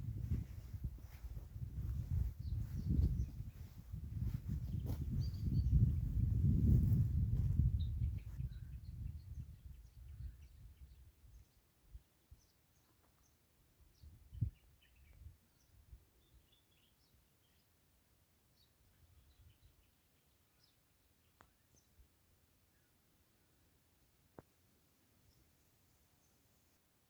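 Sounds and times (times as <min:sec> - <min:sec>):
small birds chirping: 0:00.0 - 0:17.8, 0:18.5 - 0:23.7.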